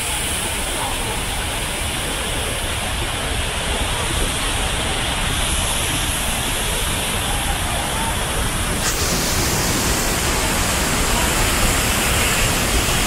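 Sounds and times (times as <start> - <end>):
waterfall rushing into pond: 0.0 - 13.0.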